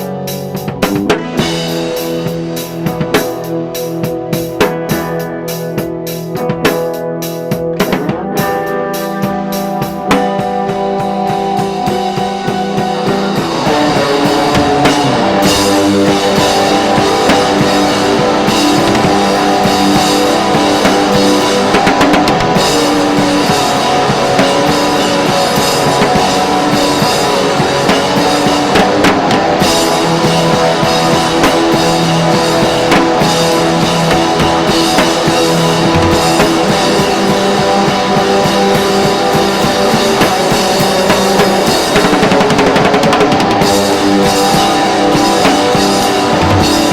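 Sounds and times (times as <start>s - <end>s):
drum kit: 0.0s - 46.9s
electric guitar: 0.0s - 46.9s.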